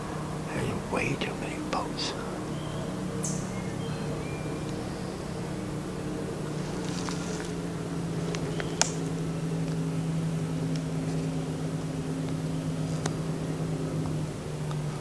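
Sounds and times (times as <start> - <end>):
distant motorboat engines droning: 0.0 - 15.0.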